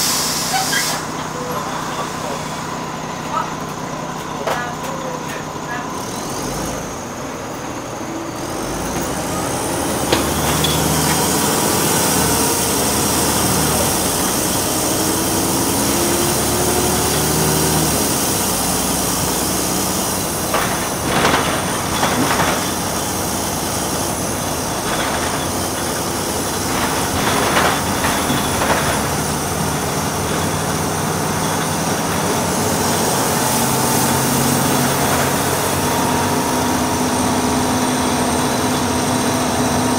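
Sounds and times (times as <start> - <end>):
bus body rattling: 0.0 - 39.9
bus diesel engine: 0.0 - 39.9
road noise: 0.0 - 39.9.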